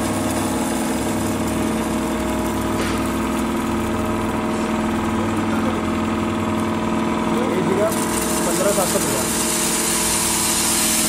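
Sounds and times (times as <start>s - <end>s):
feed grinder humming: 0.0s - 11.0s.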